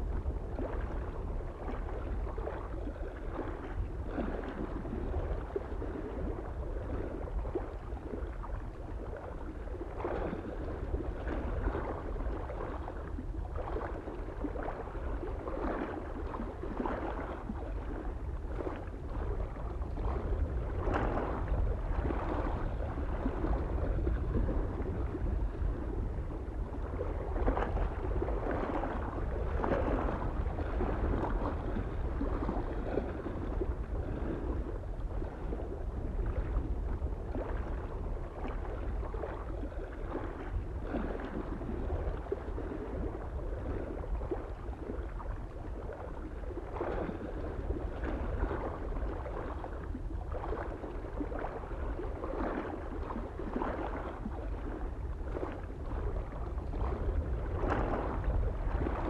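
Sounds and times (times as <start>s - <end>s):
small waves lapping on shore: 0.0s - 59.0s
wind rumble on microphone: 0.0s - 59.0s.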